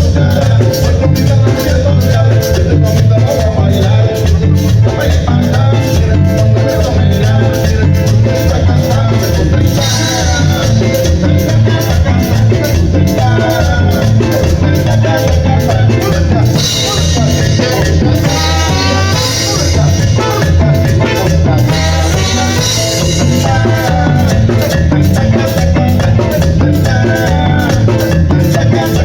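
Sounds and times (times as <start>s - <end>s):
live cumbia band playing: 0.0s - 29.0s.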